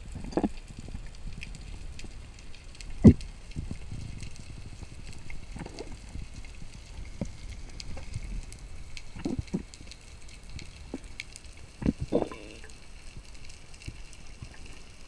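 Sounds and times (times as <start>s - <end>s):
underwater rumble of water: 0.0s - 15.0s
faint crackling clicks: 0.1s - 15.0s.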